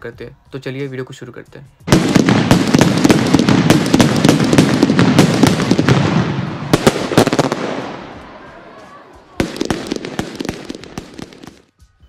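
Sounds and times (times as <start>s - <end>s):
loud firework cracks: 1.9s - 11.7s
fireworks crackling: 1.9s - 11.9s.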